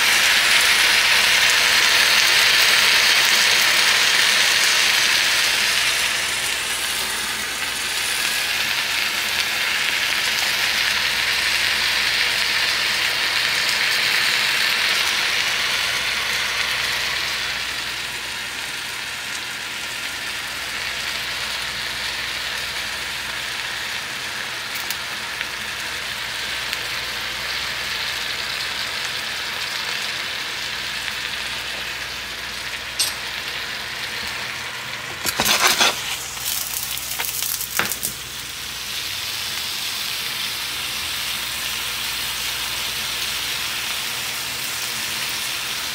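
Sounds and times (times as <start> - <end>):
food sizzling in a pan: 0.0 - 45.9.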